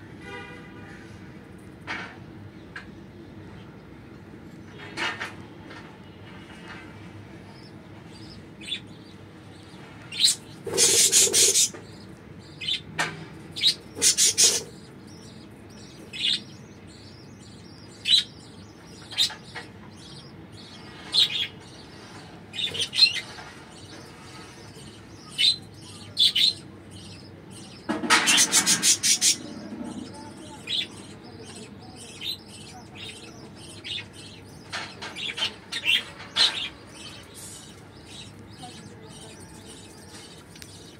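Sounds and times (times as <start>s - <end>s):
budgerigars chirping: 7.4s - 40.9s
rapid bird chattering: 7.4s - 40.9s.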